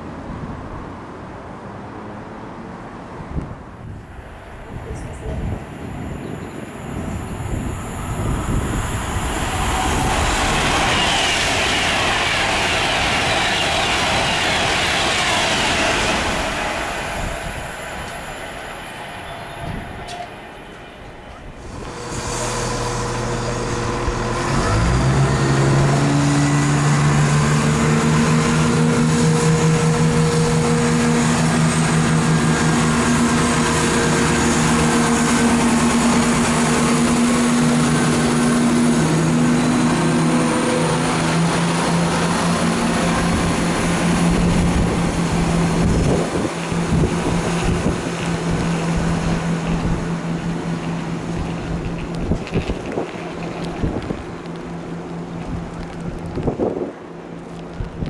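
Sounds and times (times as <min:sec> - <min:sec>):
diesel train engines droning: 0:02.8 - 0:58.0
wheel and rail noise with knocks: 0:09.7 - 0:58.0.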